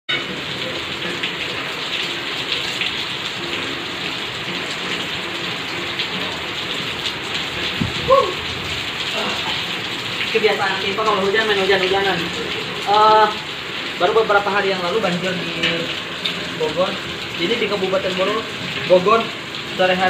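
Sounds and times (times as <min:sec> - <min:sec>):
heavy rain and hail: 0:00.1 - 0:20.0.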